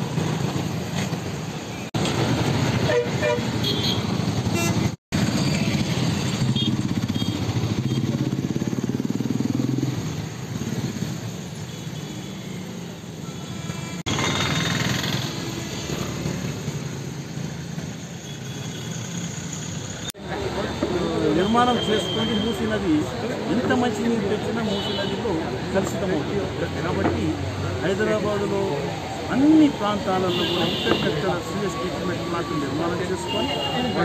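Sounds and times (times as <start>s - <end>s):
motorcycle and vehicle engines passing: 0.0s - 34.0s
steady traffic rush: 0.0s - 34.0s.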